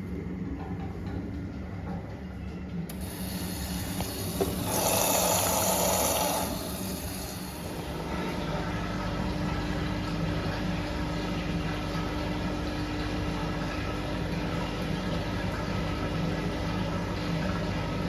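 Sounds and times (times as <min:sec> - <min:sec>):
washing machine hum: 0:00.0 - 0:18.0.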